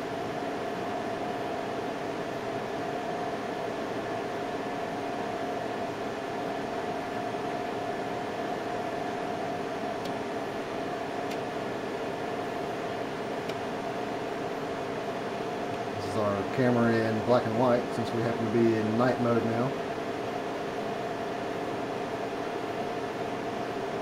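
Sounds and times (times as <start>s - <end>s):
machinery hum and hiss: 0.0s - 24.0s.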